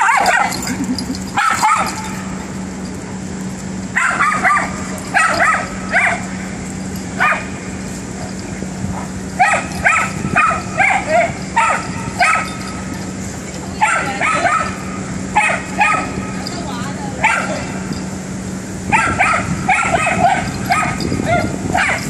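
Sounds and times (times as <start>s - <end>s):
young dogs yipping and barking: 0.0s - 2.9s, 3.8s - 16.6s, 17.2s - 18.1s, 18.8s - 22.0s
steady low hum: 0.0s - 22.0s.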